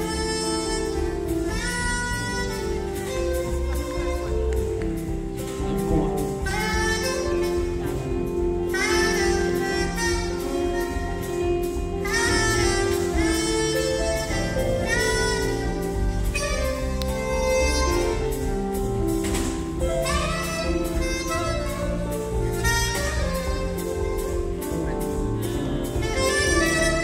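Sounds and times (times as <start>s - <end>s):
drums: 0.0s - 27.0s
electric bass: 0.0s - 27.0s
soprano saxophone melody: 0.0s - 27.0s.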